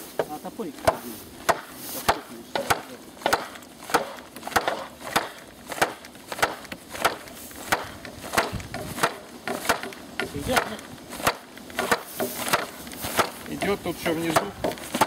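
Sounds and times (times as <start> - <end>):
hatchet knocking wooden post: 0.2 - 15.0.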